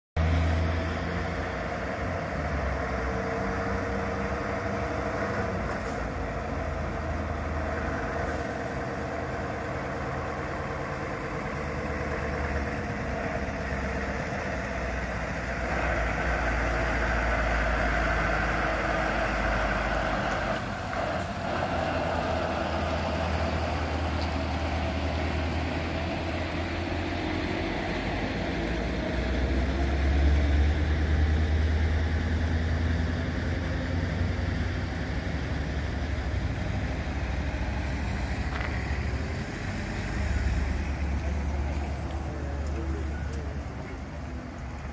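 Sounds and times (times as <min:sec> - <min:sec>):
truck diesel engine rumble: 0:00.2 - 0:44.9.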